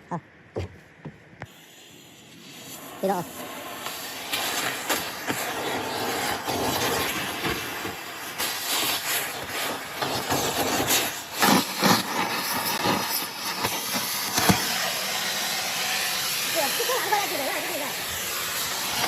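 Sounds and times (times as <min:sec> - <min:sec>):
steady hissing: 0:01.4 - 0:19.0.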